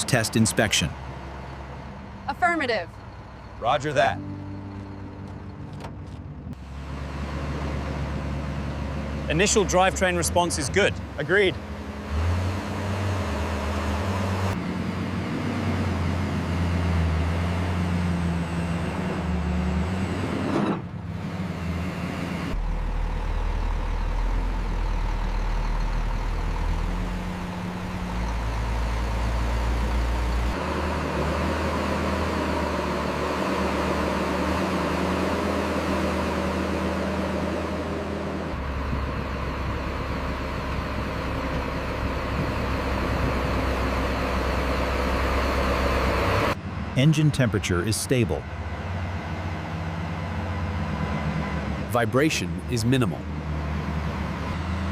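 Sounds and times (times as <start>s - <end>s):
dump truck engine humming: 0.0s - 54.9s.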